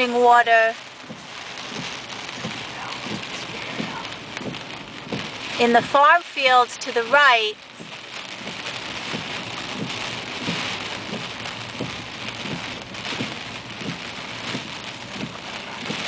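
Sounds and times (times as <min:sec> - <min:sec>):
heavy rain on a car: 0:00.0 - 0:16.0
faint low knocks: 0:00.9 - 0:06.0, 0:07.6 - 0:16.0.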